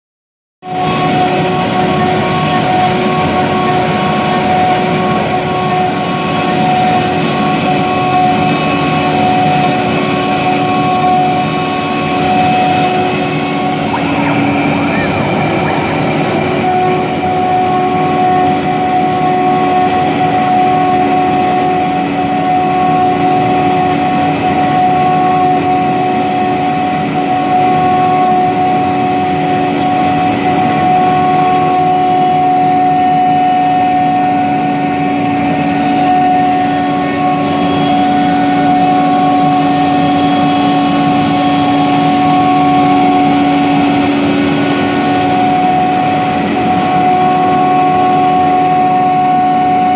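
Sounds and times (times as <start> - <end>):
router spindle whine: 0.6 - 49.9
wood cutting noise: 0.7 - 49.9.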